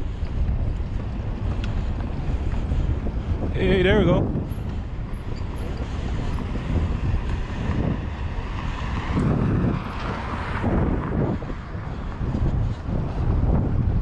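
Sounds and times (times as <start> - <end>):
bike rolling on concrete: 0.0 - 14.0
wind rushing over microphone: 0.0 - 14.0.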